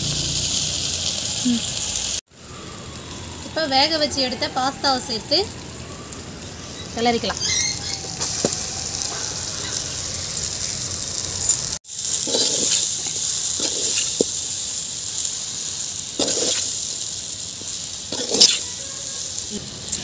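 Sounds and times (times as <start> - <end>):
pasta sauce sizzling in a pot: 0.0 - 20.0.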